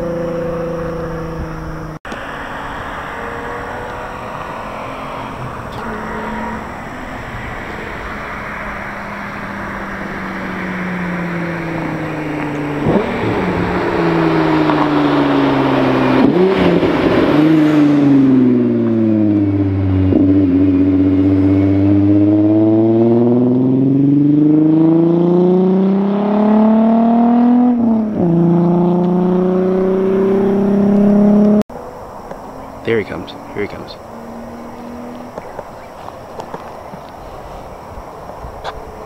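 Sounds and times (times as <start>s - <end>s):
car engine revving with loud exhaust: 0.0s - 39.0s.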